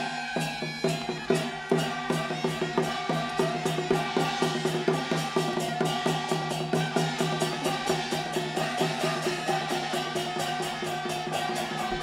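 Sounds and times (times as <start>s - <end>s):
fast percussion beat: 0.0s - 12.0s.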